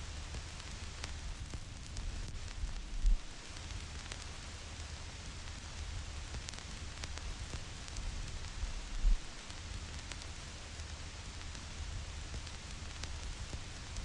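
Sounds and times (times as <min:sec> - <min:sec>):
vinyl record crackle: 0:00.0 - 0:14.0.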